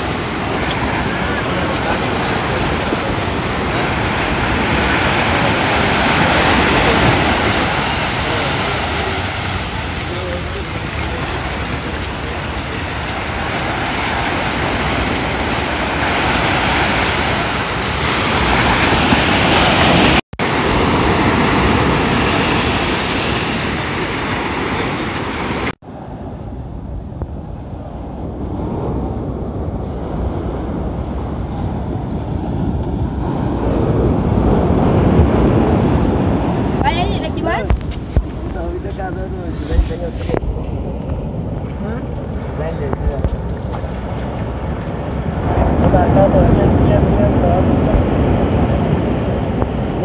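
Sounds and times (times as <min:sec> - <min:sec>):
surf breaking on beach: 0:00.0 - 0:50.0
wind buffeting microphone: 0:00.0 - 0:50.0.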